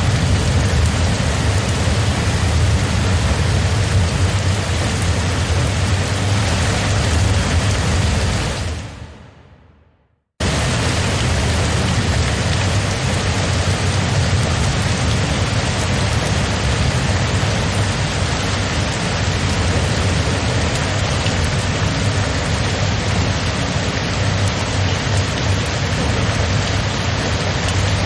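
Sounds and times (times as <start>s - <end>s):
heavy rain: 0.0s - 9.6s, 10.4s - 28.0s
low rumble: 0.0s - 27.9s.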